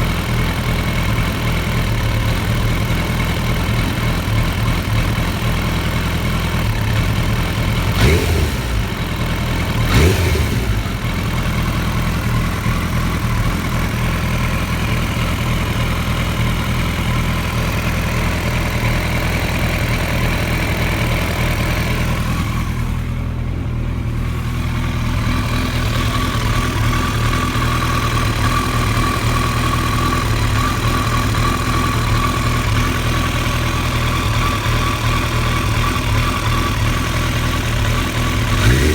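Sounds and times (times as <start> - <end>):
engine idling roughly: 0.0 - 38.9
engine sharp bursts: 5.8 - 38.9.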